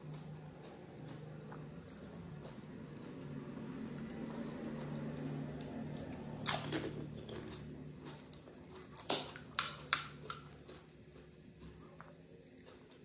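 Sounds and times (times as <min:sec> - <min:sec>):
crunching while chewing: 0:00.0 - 0:13.0.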